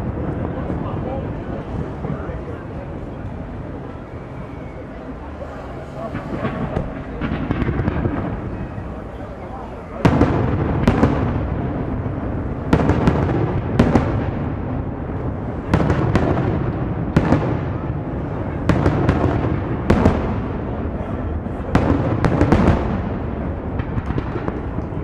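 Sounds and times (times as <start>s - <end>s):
firework bangs: 0.0s - 25.0s
rumble of echoing explosions: 0.0s - 25.0s.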